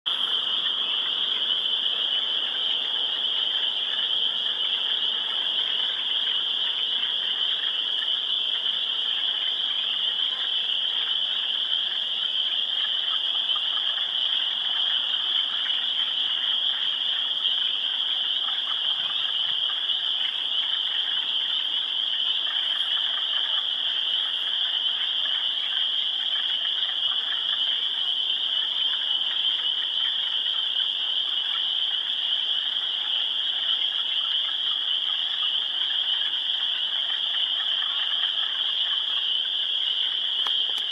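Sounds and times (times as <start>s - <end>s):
frogs chorus calling: 0.1s - 40.9s.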